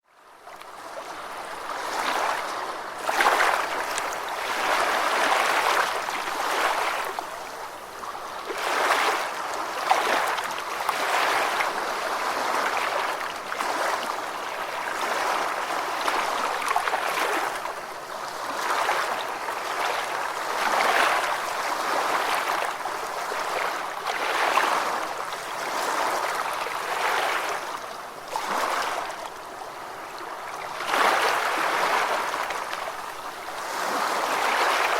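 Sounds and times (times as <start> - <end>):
ocean waves washing on beach: 0.1 - 34.9.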